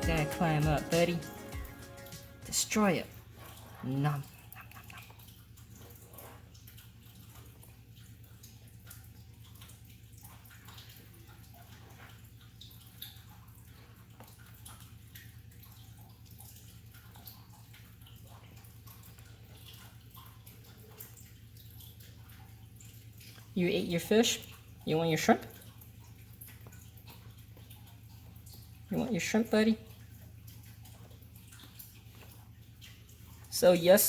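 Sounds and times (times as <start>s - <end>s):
water dripping and splashing: 0.0s - 34.0s.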